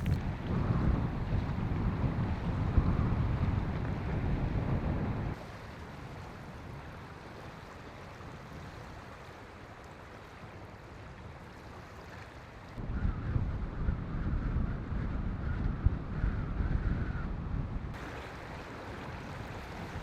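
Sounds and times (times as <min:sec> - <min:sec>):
wind buffeting microphone: 0:00.0 - 0:09.1, 0:12.8 - 0:20.0.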